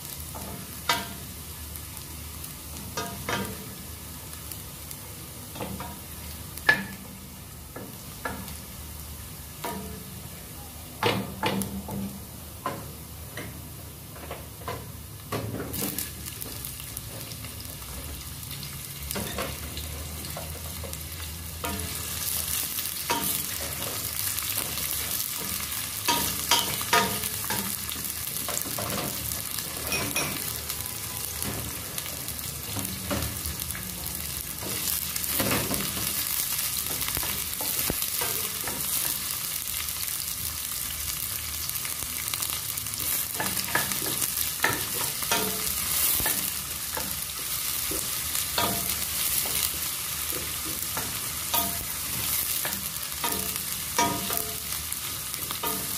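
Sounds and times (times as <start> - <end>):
onions sizzling in hot oil: 0.0 - 55.9.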